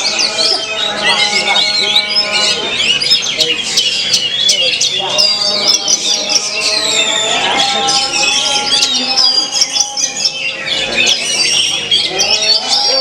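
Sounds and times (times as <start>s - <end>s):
magpie-robin whistled song: 0.0s - 13.0s
other birds singing: 0.0s - 13.0s.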